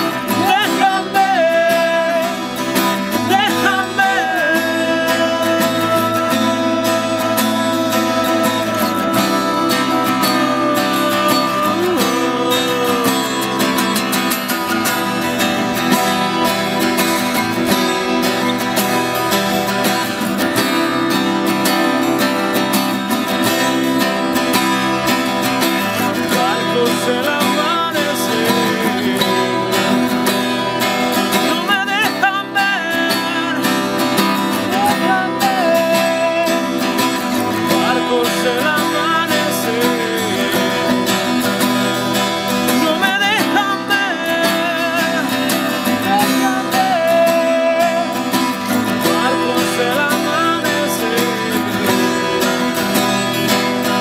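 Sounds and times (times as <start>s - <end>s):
acoustic guitars playing folk song: 0.0s - 54.0s.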